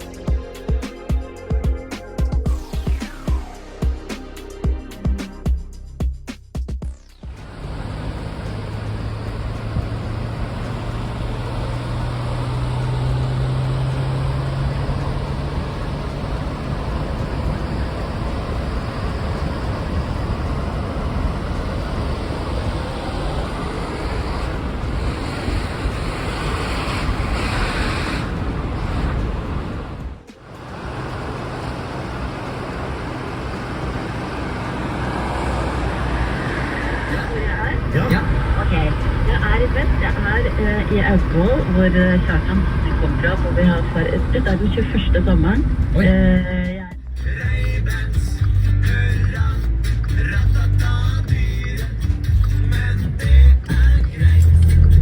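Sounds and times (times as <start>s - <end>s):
road noise: 0.0s - 6.4s, 7.0s - 55.0s
low engine hum: 6.9s - 55.0s.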